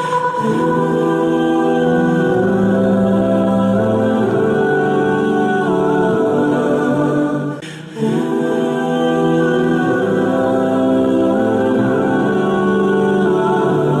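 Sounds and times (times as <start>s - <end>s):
wordless choir-like vocal music: 0.0s - 14.0s.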